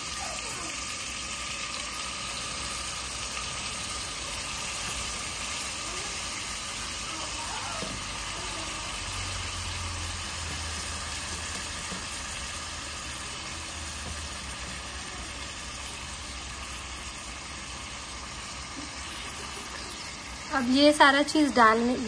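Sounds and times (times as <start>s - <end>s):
meat sizzling in pot: 0.0s - 22.0s.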